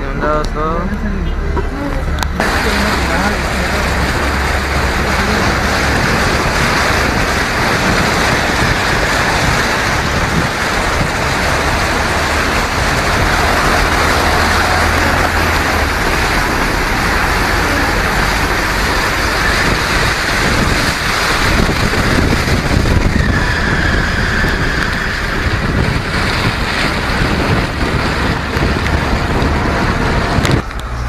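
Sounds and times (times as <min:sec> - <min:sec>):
car splashing through floodwater: 0:00.0 - 0:31.0.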